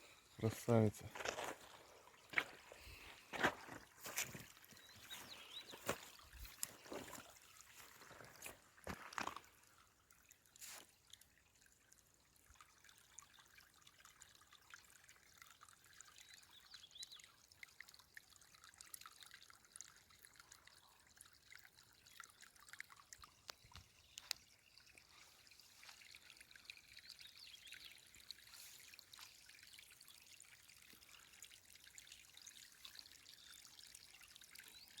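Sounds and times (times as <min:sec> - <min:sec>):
stream trickling and gurgling: 0:00.0 - 0:35.0.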